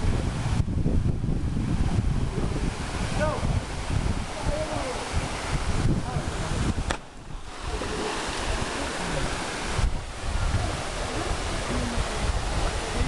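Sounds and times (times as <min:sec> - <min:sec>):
waterfall rushing: 0:00.0 - 0:13.0
wind gusting on microphone: 0:00.0 - 0:13.0.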